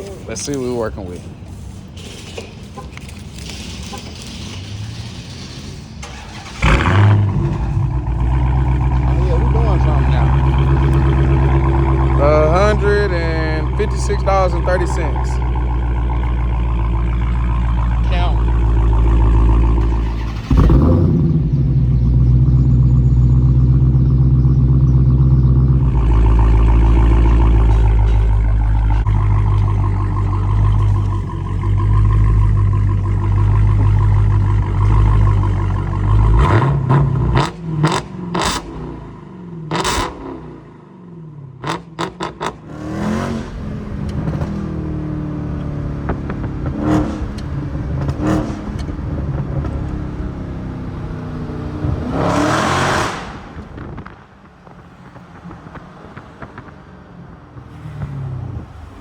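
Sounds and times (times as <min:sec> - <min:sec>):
car engine revving loudly: 0:06.0 - 0:40.8, 0:41.6 - 0:54.2.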